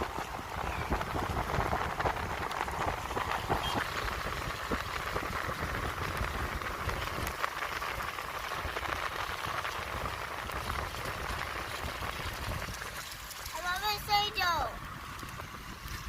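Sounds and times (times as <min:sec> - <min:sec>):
raindrop ticks: 0:00.0 - 0:16.0
steady rain falling: 0:00.0 - 0:16.0
wind rumbling on microphone: 0:00.0 - 0:16.0.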